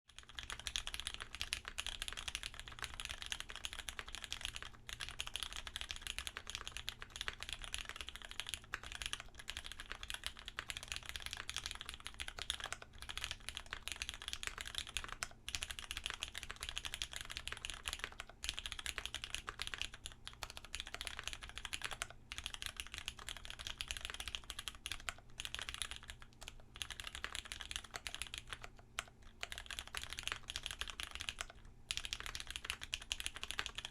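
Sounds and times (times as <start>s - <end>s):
mechanical keyboard typing: 0.1s - 33.9s.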